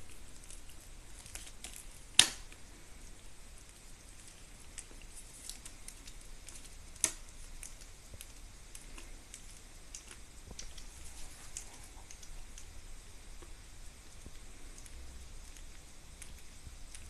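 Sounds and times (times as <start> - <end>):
puppies chewing and licking: 0.0 - 17.0.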